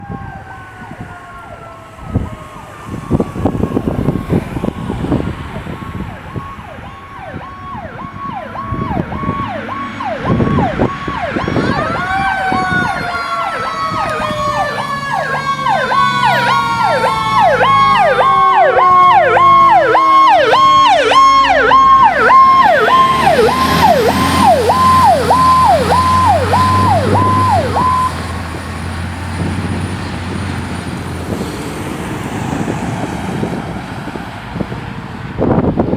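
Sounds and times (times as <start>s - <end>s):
rising and falling siren tone: 0.0s - 29.5s
pulsing fire engine siren: 0.0s - 35.9s.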